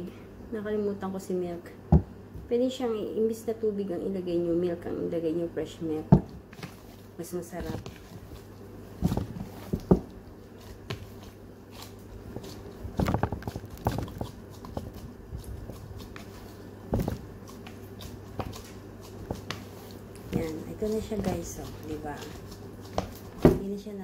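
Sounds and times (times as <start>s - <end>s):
steady low hum: 0.0s - 24.0s
hand kneading bread dough: 4.4s - 23.8s.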